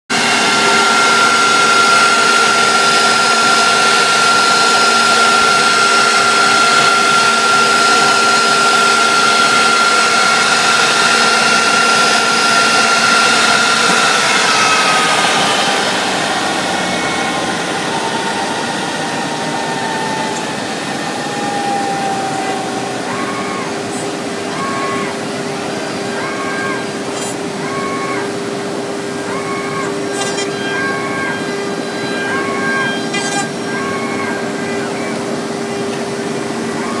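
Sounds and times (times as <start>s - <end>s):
router spindle whining: 0.1s - 37.0s.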